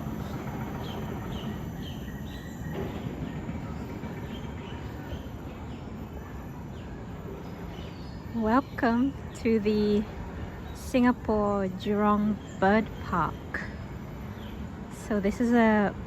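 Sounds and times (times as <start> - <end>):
birds chirping: 0.0 - 15.8
steady low background noise: 0.0 - 16.0.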